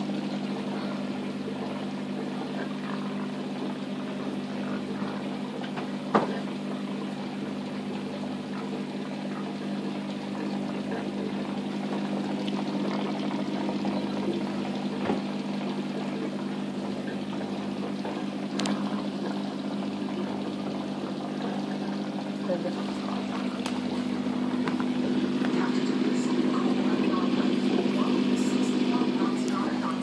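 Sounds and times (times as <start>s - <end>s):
aquarium pump humming: 0.0s - 30.0s
water bubbling and trickling: 0.0s - 30.0s.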